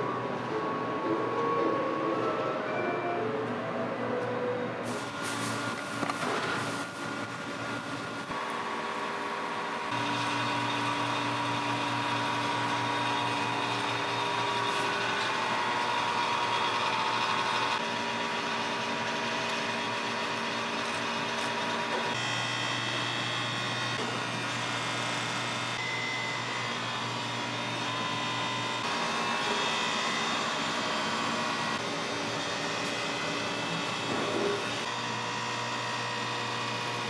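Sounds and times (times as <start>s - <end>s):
fans humming: 0.0s - 37.0s.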